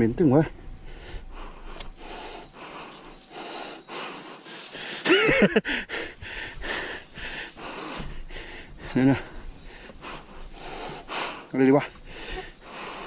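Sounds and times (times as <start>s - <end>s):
person breathing hard: 0.8s - 13.0s.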